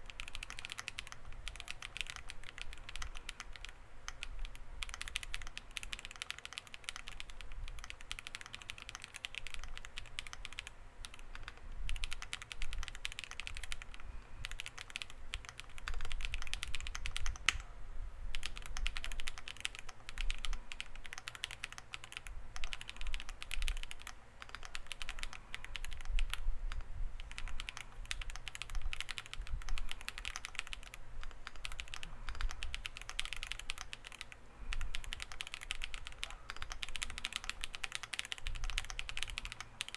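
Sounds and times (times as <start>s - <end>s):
mechanical keyboard typing: 0.0s - 17.6s, 18.3s - 39.9s.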